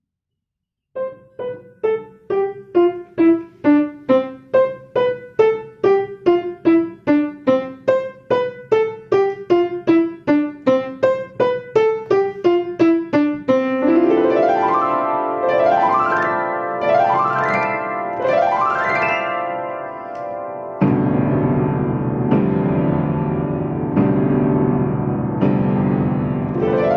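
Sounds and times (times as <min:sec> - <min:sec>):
piano playing: 0:01.0 - 0:26.9.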